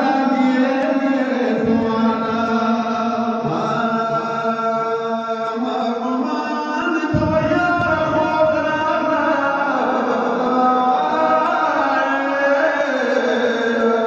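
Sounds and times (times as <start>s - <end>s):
man chanting a lament: 0.0s - 14.0s.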